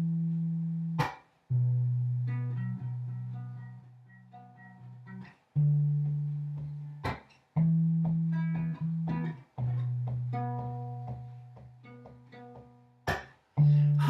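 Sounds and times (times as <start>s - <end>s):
plucked guitar: 0.0s - 14.0s.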